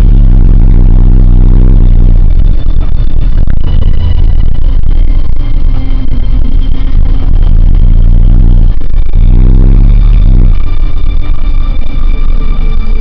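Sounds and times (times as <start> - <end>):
pickup truck engine rumbling: 0.0 - 5.6, 6.4 - 11.7.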